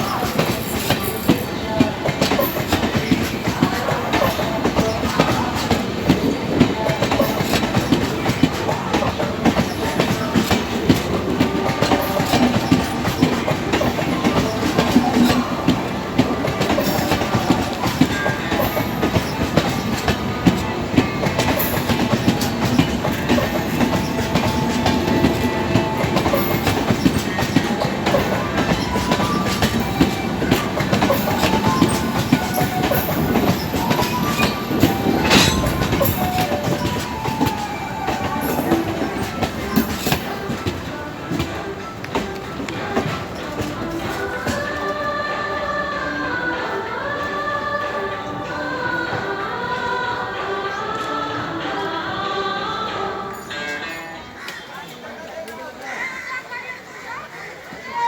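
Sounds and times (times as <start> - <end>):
train wheels clattering on rails: 0.0 - 52.3.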